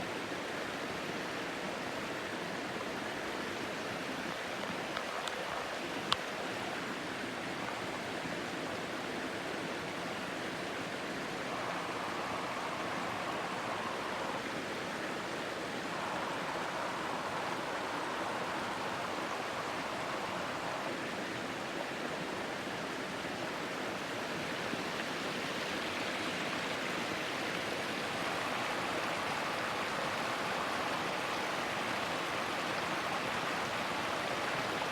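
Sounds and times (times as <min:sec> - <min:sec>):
waterfall rushing and splashing: 0:00.0 - 0:34.9.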